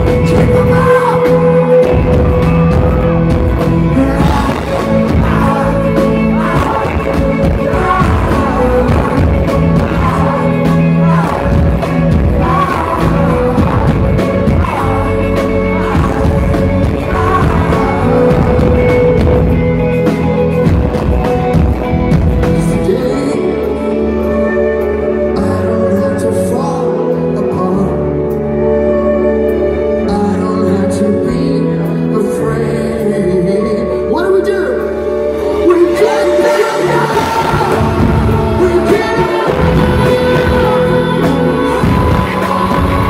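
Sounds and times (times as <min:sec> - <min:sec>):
man singing: 0:00.0 - 0:29.2, 0:29.8 - 0:43.0
live rock band playing: 0:00.0 - 0:43.0.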